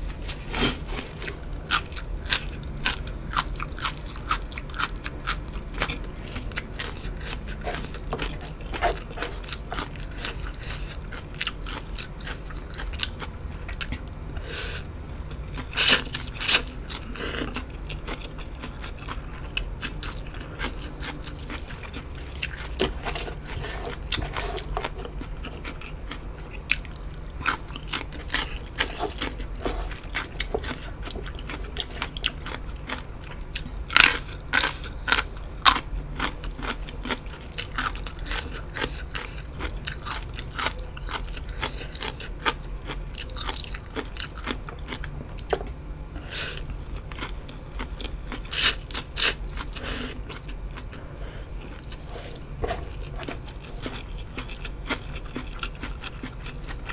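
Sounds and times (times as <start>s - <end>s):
crunchy chewing: 0.1s - 56.9s.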